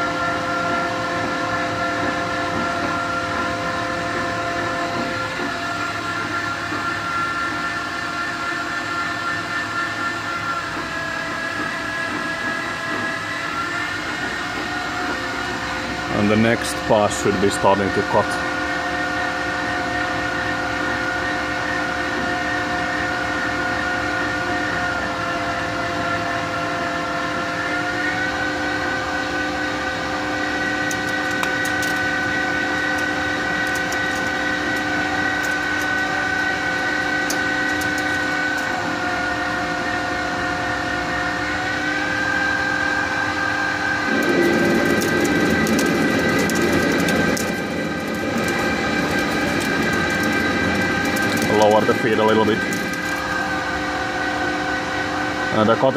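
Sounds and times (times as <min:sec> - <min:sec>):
lathe spindle whine: 0:00.0 - 0:55.9
loud rough machine noise: 0:00.0 - 0:55.9.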